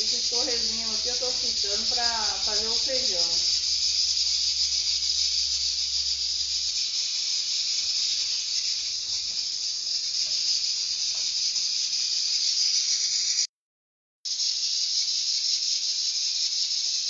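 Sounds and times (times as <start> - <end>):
pork fat sizzling in a pot: 0.0 - 13.5, 14.2 - 17.0.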